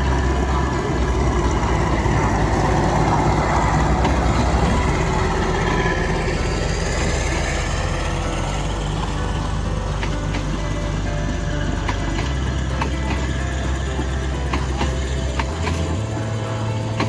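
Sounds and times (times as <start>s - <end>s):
diesel train engine rumbling: 0.0s - 17.0s.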